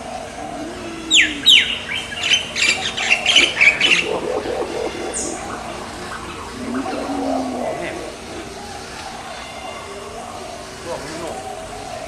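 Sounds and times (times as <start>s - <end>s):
birds squawking: 0.0s - 11.6s
birds chirping: 0.0s - 12.0s.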